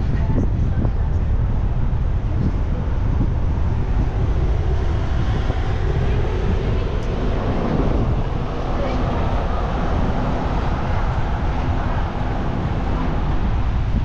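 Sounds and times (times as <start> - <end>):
road and engine rumble: 0.0 - 14.0
wind noise on microphone: 0.0 - 14.0.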